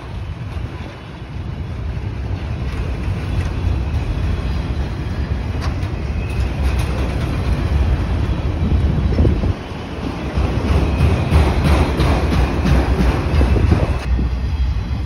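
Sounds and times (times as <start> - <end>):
freight train rolling past: 0.0 - 15.0
steel wheels rumbling on rails: 0.0 - 15.0.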